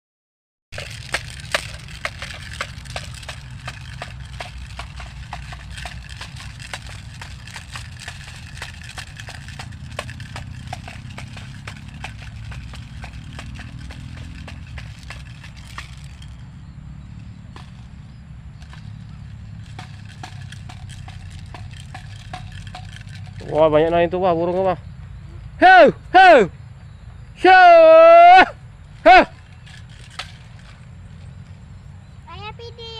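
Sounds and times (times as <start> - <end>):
rapid wooden clacking: 0.8 - 24.7, 29.0 - 31.6
steady low rumble: 0.8 - 27.4.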